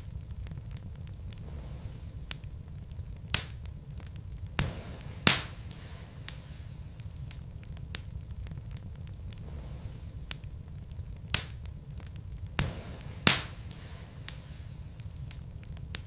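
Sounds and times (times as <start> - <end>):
fire rumbling: 0.0 - 16.0
wood fire crackling and popping: 0.0 - 16.0.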